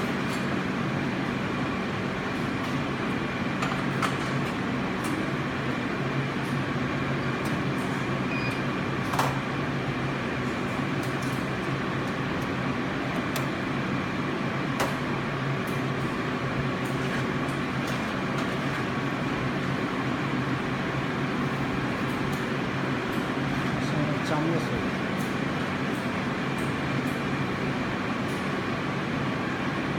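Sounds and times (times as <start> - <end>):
mechanical hum: 0.0 - 29.9.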